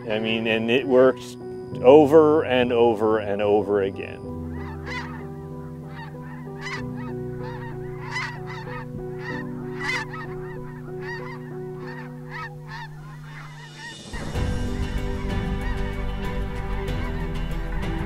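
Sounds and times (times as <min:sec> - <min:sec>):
geese yelping calls: 0:00.0 - 0:18.0
soft low background music: 0:00.0 - 0:18.0.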